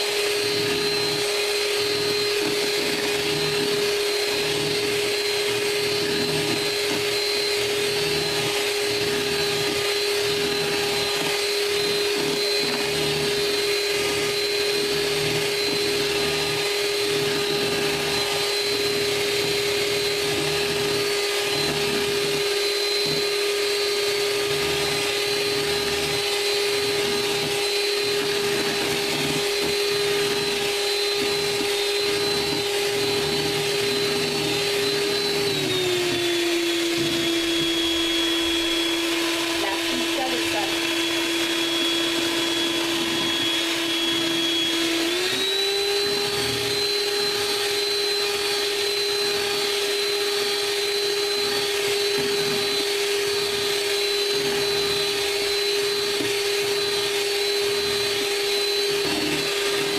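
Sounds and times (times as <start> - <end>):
electric hand mixer whining: 0.0 - 59.9.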